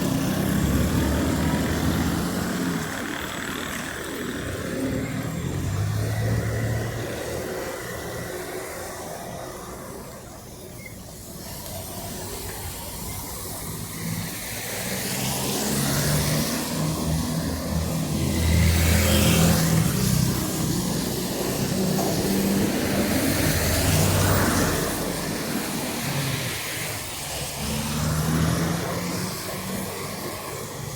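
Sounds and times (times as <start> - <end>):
cars passing: 0.0 - 30.9.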